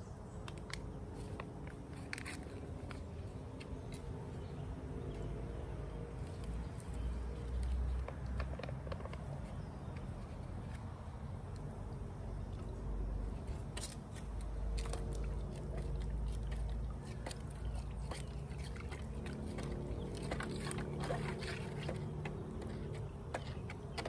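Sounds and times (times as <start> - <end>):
water sloshing: 0.8 - 24.0.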